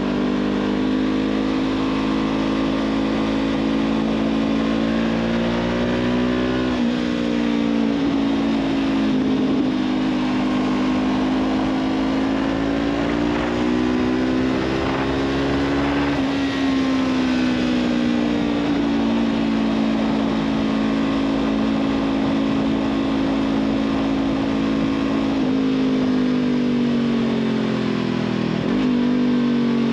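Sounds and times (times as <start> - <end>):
motorcycle engine exhaust note: 0.0 - 26.5.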